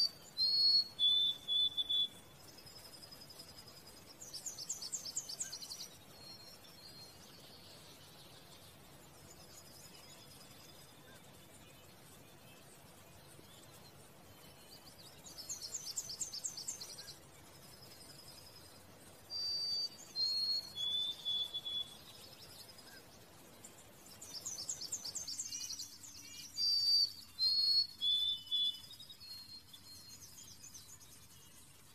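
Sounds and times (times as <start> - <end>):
songbird singing: 0.0 - 31.9.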